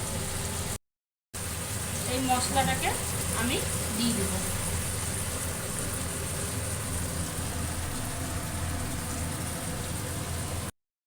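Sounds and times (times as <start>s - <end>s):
vegetables sizzling in oil: 0.0s - 0.8s, 1.4s - 10.7s.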